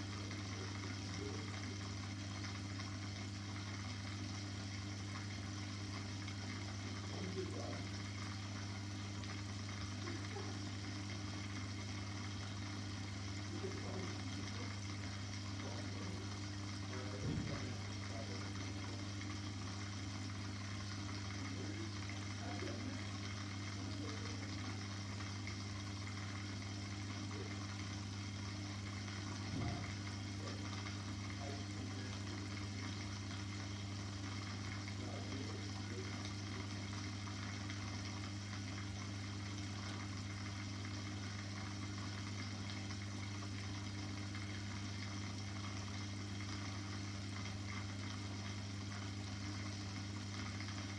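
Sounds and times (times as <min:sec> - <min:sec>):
aquarium pump humming: 0:00.0 - 0:50.9.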